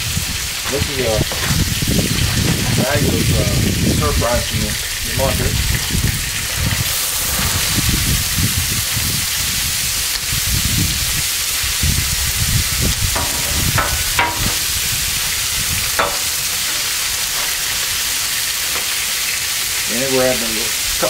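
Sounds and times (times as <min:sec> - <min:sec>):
food sizzling on a griddle: 0:00.0 - 0:21.0.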